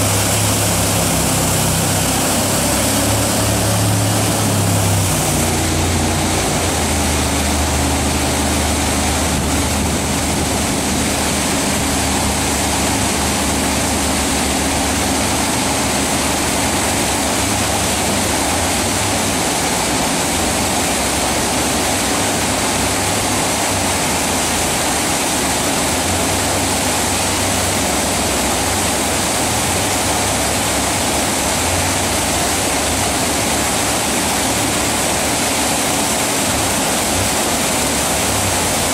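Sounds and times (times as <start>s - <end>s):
jet boat engine drone: 0.0s - 38.9s
whitewater rapid roaring: 0.0s - 38.9s.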